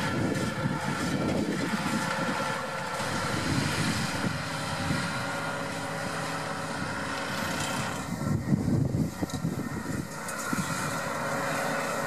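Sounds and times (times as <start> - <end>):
tractor running under load: 0.0 - 12.0.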